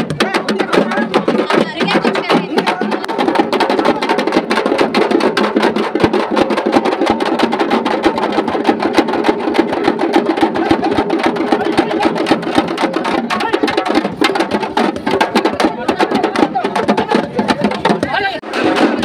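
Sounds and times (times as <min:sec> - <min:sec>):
frame drums beaten rapidly: 0:00.0 - 0:19.0.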